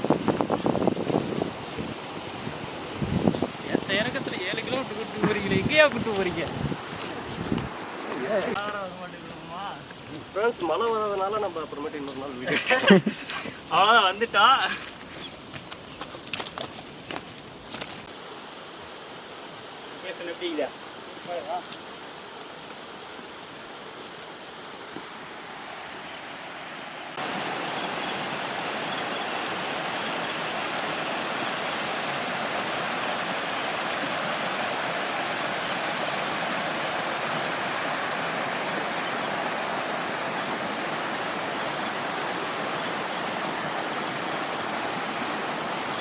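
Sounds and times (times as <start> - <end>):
waterfall and stream rushing: 0.0 - 46.0.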